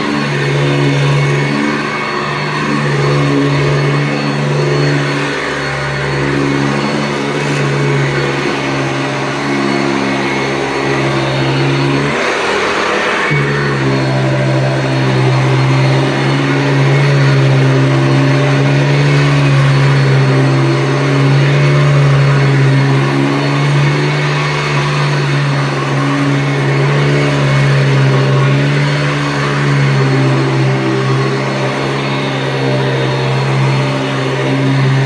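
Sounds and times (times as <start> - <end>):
vacuum cleaner motor hum: 0.0 - 35.0.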